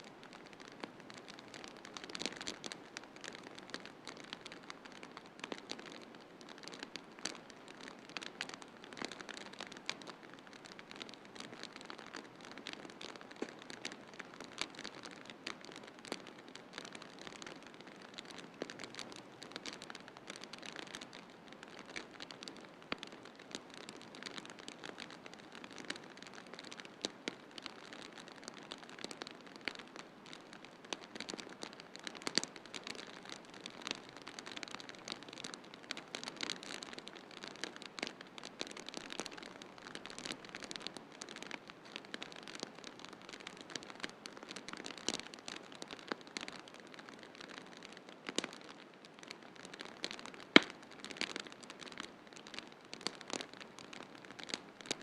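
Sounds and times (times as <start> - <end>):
wood fire crackling and popping: 0.2 - 55.0.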